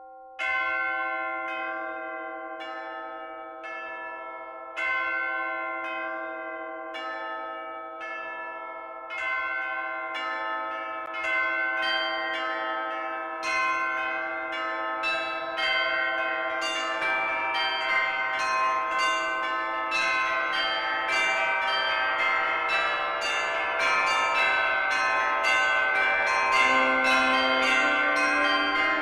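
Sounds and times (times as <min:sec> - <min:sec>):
church bells ringing: 0:00.0 - 0:29.0.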